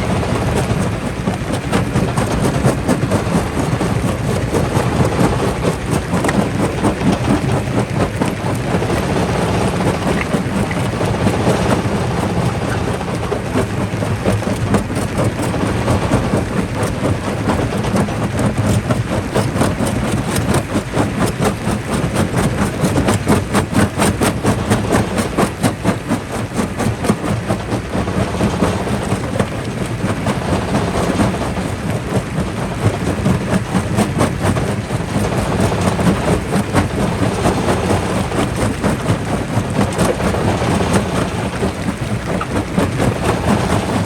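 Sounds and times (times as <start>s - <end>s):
heavy machine rumble: 0.0s - 44.0s.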